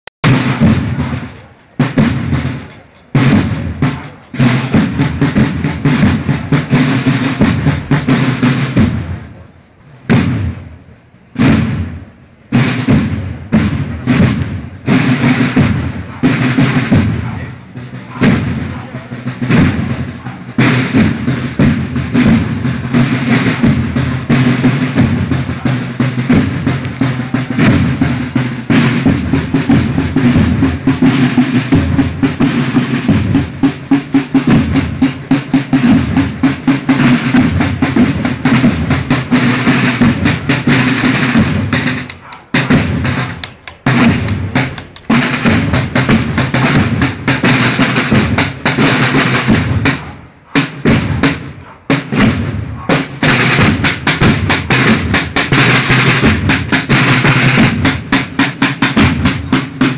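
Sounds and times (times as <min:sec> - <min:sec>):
marching band drums: 0:00.2 - 0:59.9.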